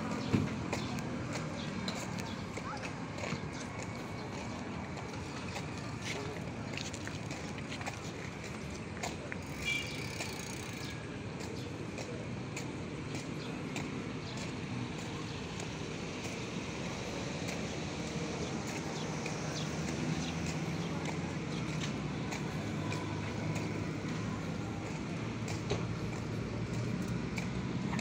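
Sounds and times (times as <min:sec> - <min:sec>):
footsteps on concrete: 0:00.0 - 0:28.0
traffic rumble: 0:00.0 - 0:28.0.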